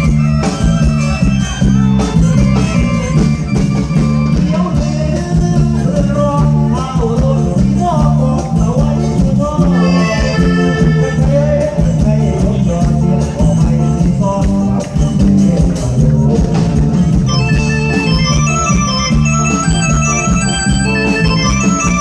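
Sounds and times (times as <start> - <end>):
person singing: 4.3 - 22.0.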